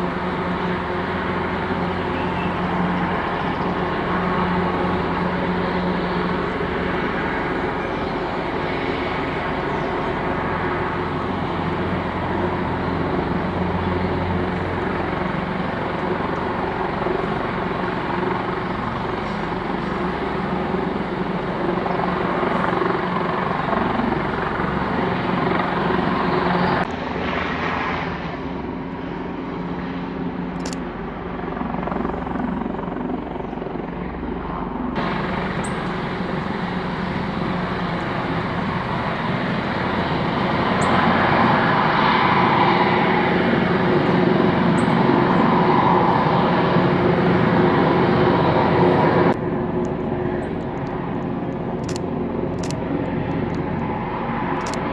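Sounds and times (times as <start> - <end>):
helicopter turbine and rotor: 0.0 - 54.9.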